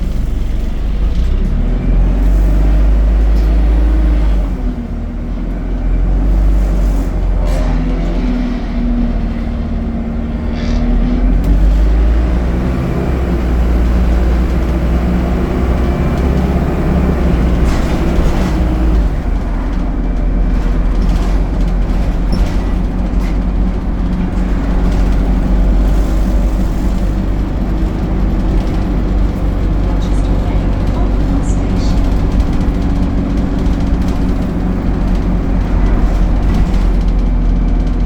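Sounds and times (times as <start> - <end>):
bus diesel engine rumble: 0.0 - 38.0.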